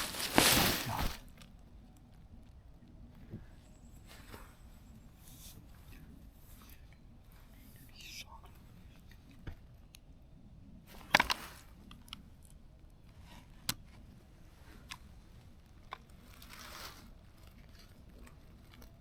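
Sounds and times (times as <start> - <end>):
soft rustle: 0.0 - 9.9, 10.8 - 19.0.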